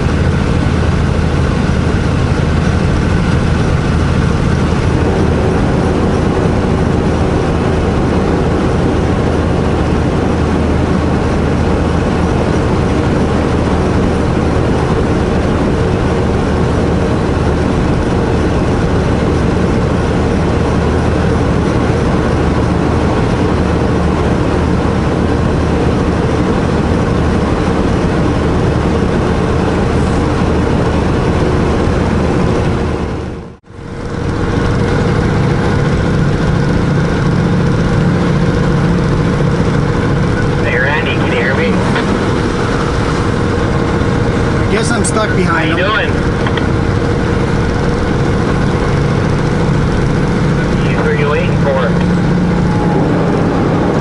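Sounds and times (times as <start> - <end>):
diesel truck engine droning: 0.0 - 54.0
road noise: 0.0 - 54.0.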